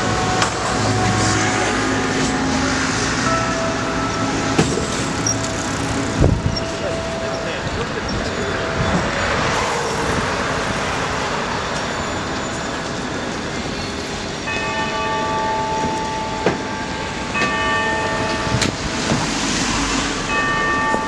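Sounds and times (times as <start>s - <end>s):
held steady tones: 0.0s - 19.1s
city street traffic: 0.0s - 21.0s.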